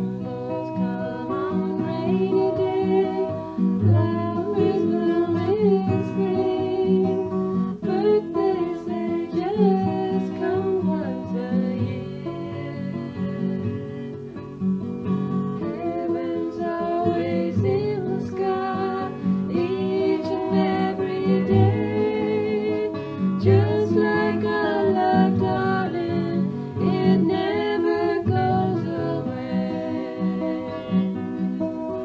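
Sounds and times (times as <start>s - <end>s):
person singing: 0.0s - 14.3s, 15.6s - 31.7s
acoustic guitar: 0.0s - 32.0s.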